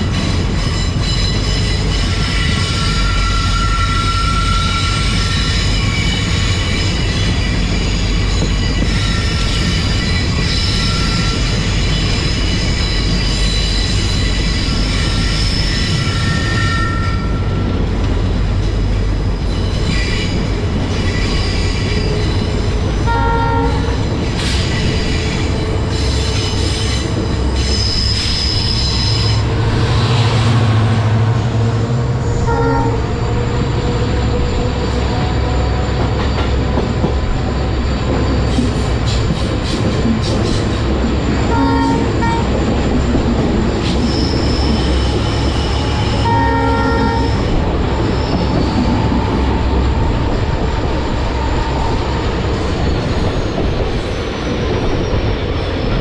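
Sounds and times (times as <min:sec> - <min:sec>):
train rumbling on track: 0:00.0 - 0:56.0
train wheel squeals: 0:00.0 - 0:56.0.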